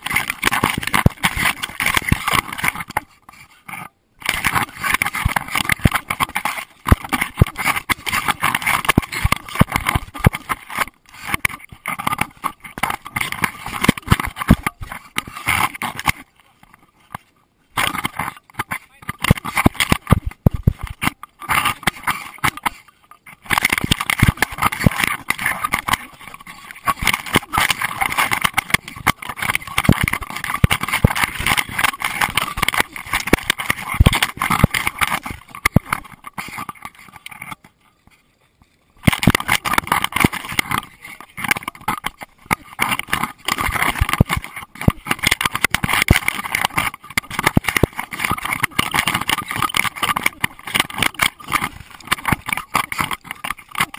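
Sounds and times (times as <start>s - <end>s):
camera housing scraping and knocking: 0.0s - 17.2s, 17.8s - 37.6s, 39.0s - 53.9s.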